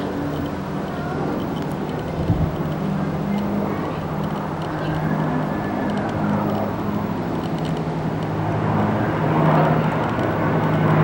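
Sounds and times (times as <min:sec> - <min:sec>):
turboprop plane droning overhead: 0:00.0 - 0:11.0.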